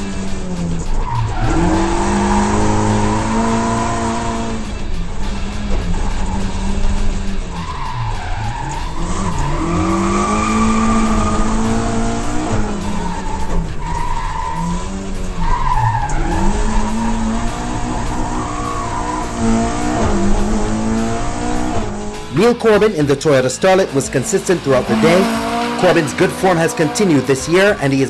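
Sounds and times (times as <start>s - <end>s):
rally car engine revving hard: 0.0s - 23.2s, 23.8s - 28.0s
tyres squealing: 5.5s - 28.0s.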